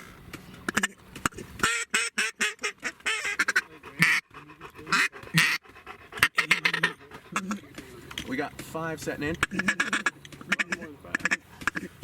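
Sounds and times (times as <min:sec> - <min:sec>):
ducks quacking: 0:00.6 - 0:08.0, 0:09.2 - 0:12.0.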